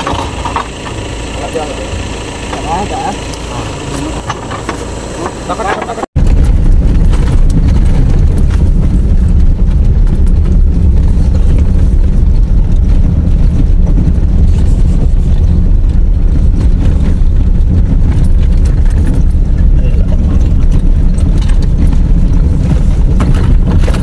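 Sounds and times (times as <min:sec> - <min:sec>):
knocking and rattling from bumps: 0:00.0 - 0:01.1, 0:03.9 - 0:24.0
vehicle rumbling on rough road: 0:00.0 - 0:24.0.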